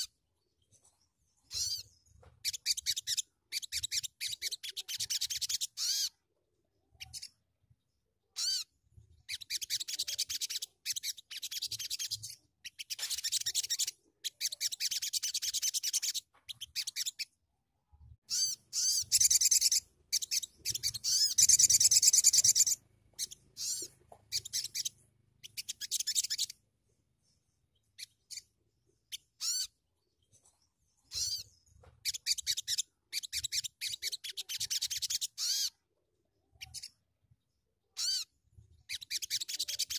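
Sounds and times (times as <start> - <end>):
songbird twittering: 0.0 - 6.2, 8.4 - 17.4, 18.2 - 26.6, 27.2 - 35.8.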